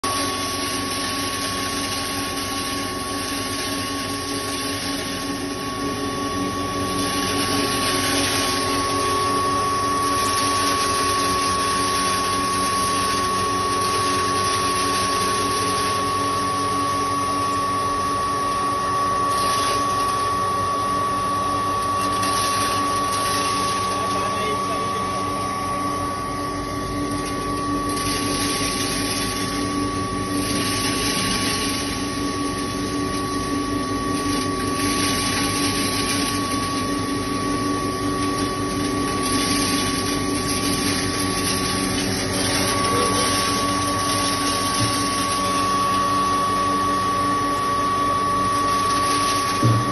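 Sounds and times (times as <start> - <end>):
grinding mill running: 0.0 - 49.9
high whine: 0.0 - 49.9.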